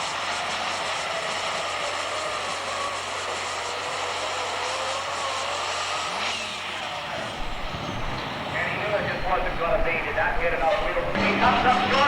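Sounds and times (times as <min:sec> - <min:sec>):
diesel engine at full throttle: 0:00.0 - 0:12.0.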